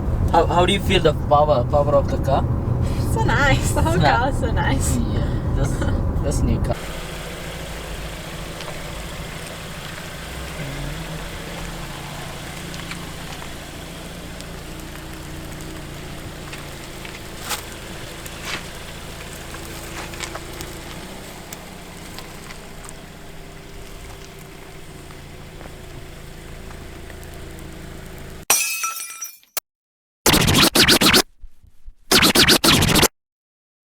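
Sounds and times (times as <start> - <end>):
car engine and road hum: 0.0 - 28.5.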